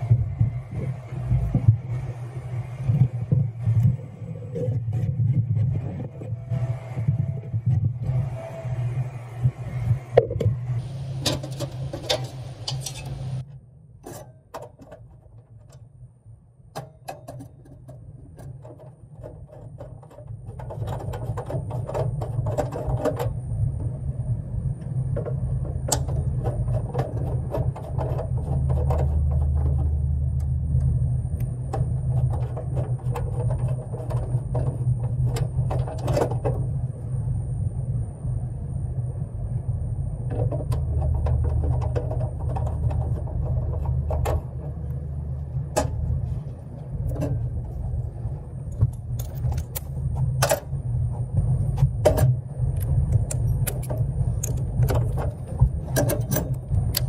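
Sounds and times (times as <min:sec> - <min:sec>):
steady low rumble: 0:00.0 - 0:14.0, 0:15.1 - 0:57.0.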